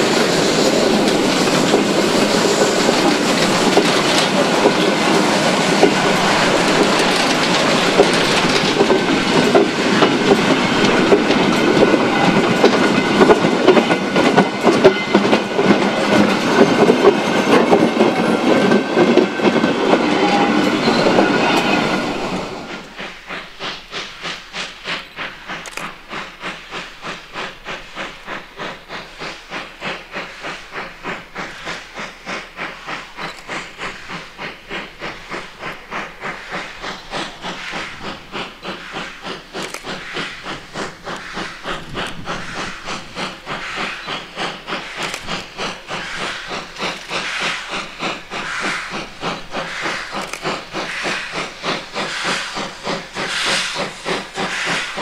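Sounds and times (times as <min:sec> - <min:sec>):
steam locomotive chuffing: 0:00.0 - 0:55.0.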